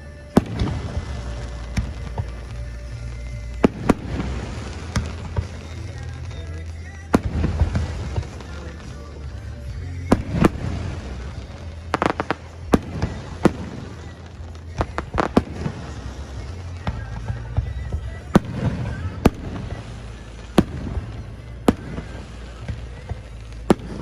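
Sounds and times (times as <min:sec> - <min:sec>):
fireworks bangs: 0:00.0 - 0:24.0
fireworks crackling: 0:00.0 - 0:24.0
music: 0:00.0 - 0:24.0.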